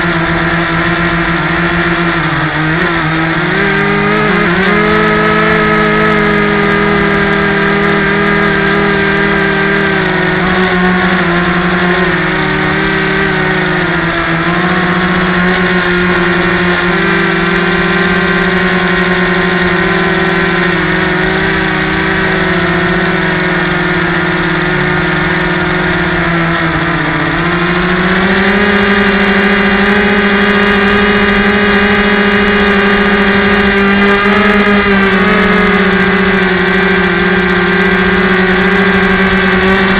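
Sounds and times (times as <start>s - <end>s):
model airplane motor whining: 0.0s - 39.9s.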